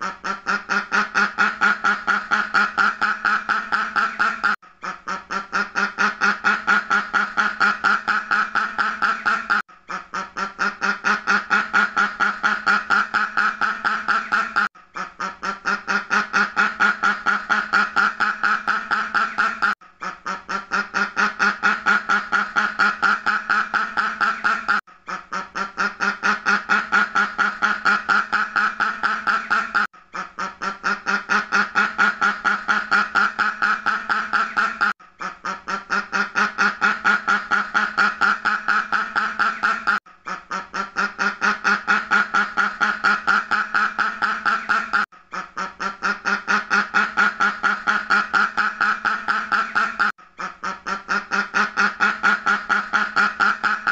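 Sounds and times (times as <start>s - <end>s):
duck quacking rapidly: 0.0s - 53.9s.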